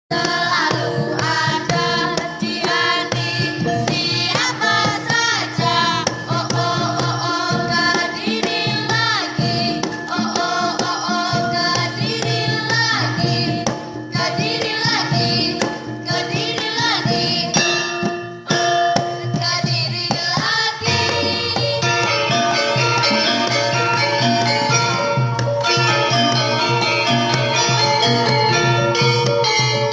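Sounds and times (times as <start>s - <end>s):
hand drums and percussion: 0.1s - 29.9s.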